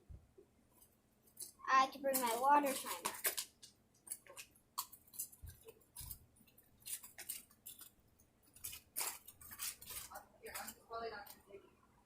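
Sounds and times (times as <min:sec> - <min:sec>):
plastic toys clicking and clacking: 0:01.3 - 0:11.4.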